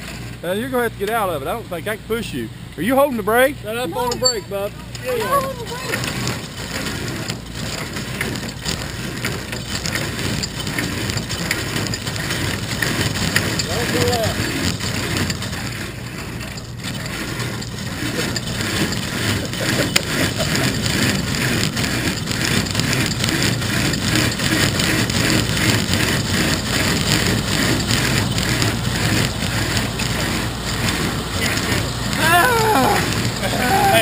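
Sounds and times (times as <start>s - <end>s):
race car engine running: 0.0s - 34.0s.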